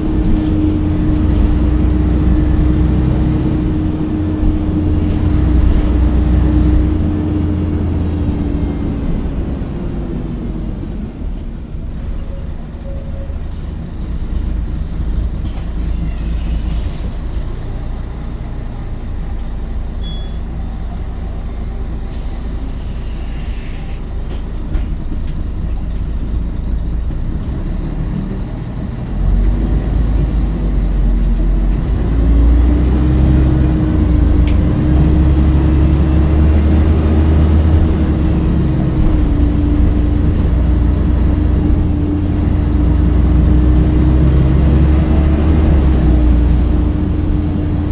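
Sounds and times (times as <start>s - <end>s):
bus diesel engine: 0.0s - 47.9s.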